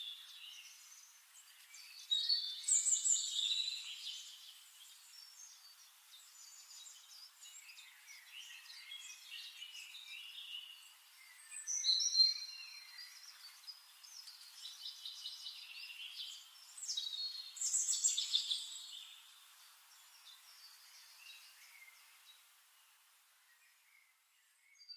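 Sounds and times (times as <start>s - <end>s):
birds chirping and singing: 0.0s - 22.2s.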